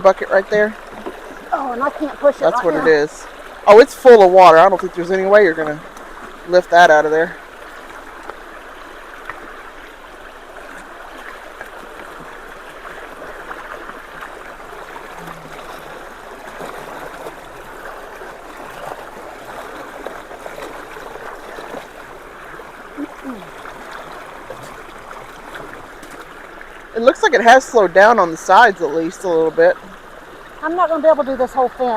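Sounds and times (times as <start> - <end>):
water rushing through culvert: 0.0 - 31.9.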